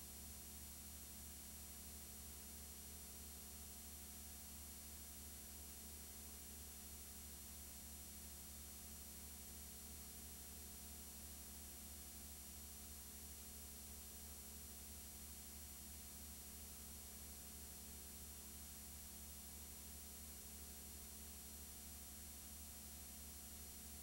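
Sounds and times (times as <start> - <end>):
faint electrical hum and hiss: 0.0 - 24.0.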